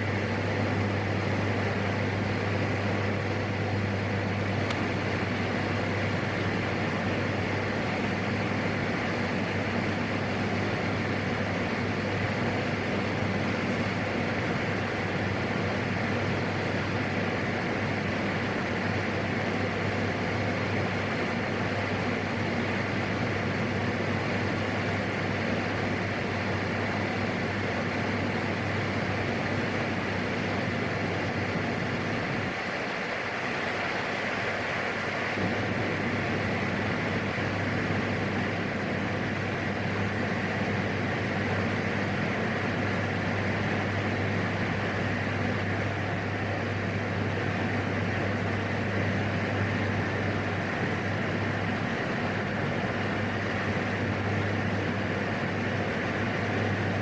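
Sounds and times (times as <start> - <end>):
turboprop engine droning: 0.0 - 57.0.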